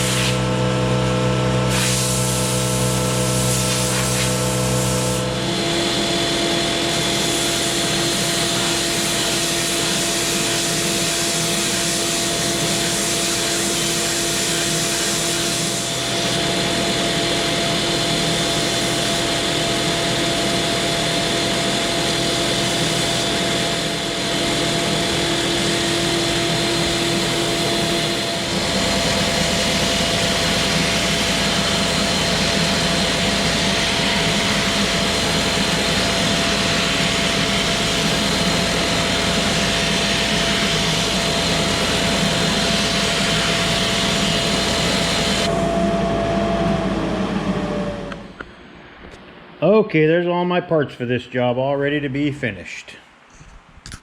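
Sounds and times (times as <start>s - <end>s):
dust-extracting vacuum: 0.0s - 1.0s, 1.6s - 48.5s
electric sander: 0.0s - 48.4s.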